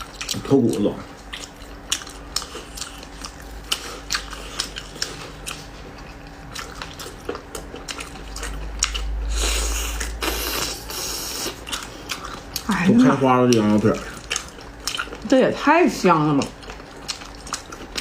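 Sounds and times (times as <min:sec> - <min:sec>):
person chewing meat: 0:00.0 - 0:15.3, 0:16.4 - 0:18.0.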